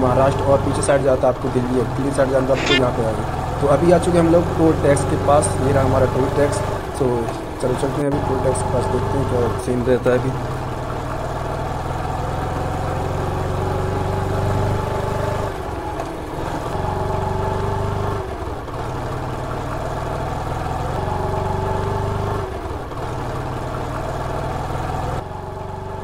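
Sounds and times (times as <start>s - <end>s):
motorcycle engine pulling away: 3.0s - 26.0s.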